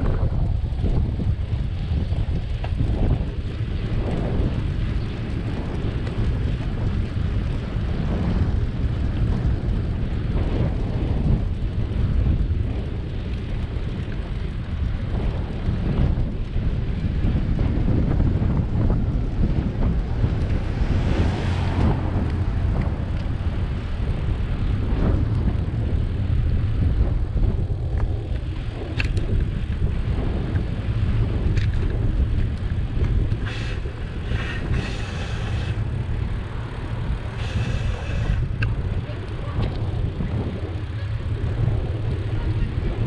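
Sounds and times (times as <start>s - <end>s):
bicycle road noise: 0.0s - 43.0s
wind rumbling on microphone: 0.0s - 43.0s.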